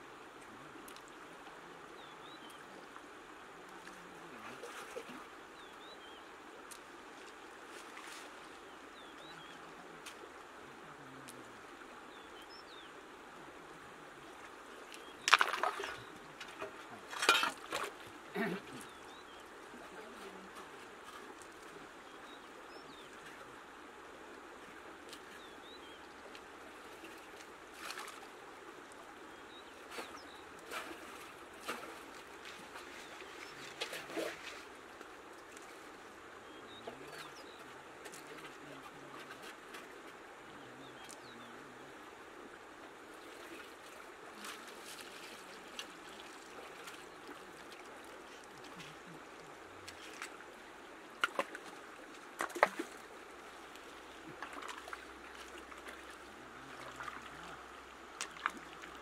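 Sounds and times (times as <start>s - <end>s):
river water running over stones: 0.0s - 59.0s.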